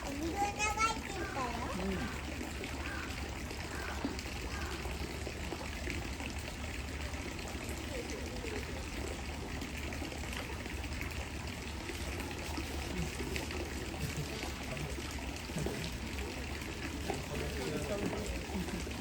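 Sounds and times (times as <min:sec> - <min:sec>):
running water trickling: 0:00.0 - 0:19.0.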